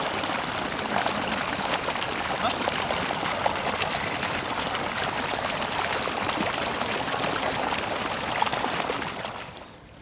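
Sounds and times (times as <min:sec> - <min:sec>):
water splashing and running: 0:00.0 - 0:09.6.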